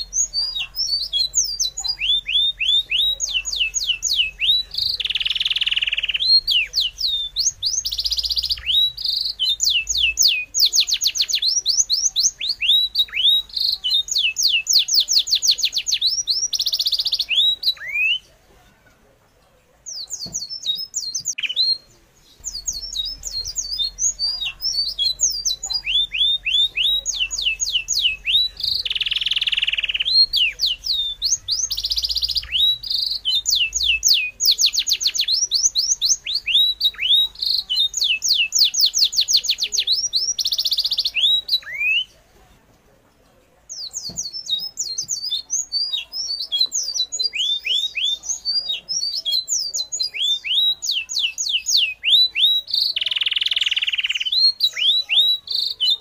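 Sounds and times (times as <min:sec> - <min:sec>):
harsh bird calls: 0:00.0 - 0:18.3, 0:19.9 - 0:42.2, 0:43.7 - 0:56.0.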